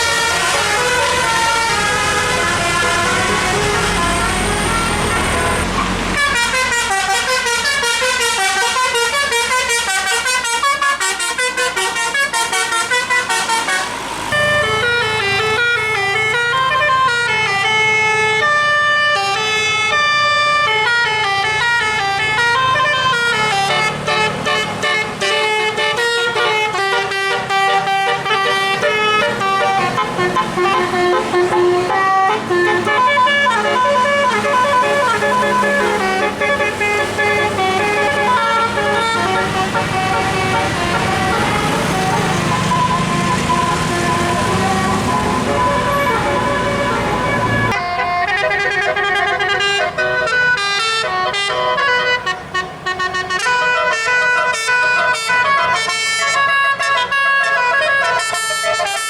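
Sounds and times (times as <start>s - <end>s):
bus horns playing melodic tunes: 0.0s - 59.0s.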